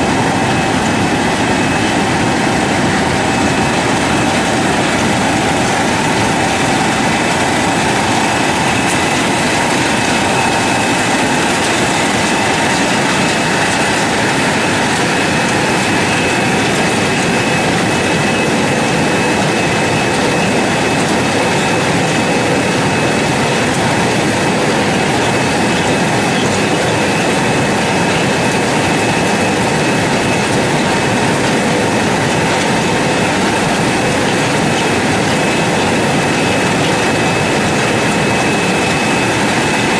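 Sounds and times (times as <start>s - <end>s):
thin steady whine: 0.0s - 39.9s
washing machine churning and bubbling: 0.0s - 39.9s.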